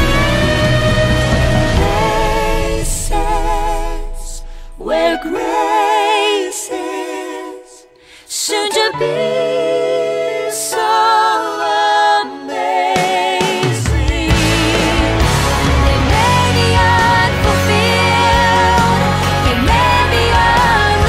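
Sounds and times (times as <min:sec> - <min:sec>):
person singing with vibrato: 0:00.0 - 0:21.0.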